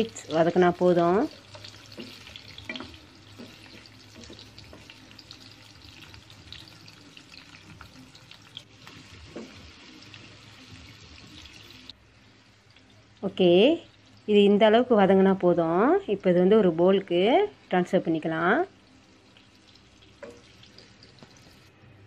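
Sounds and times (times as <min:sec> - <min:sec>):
vegetables sizzling in oil: 0:00.0 - 0:21.8.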